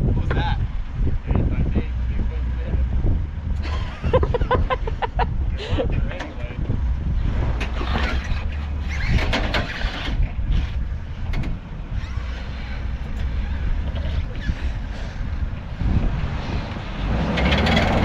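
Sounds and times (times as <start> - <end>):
truck engine at low revs: 0.0 - 18.0.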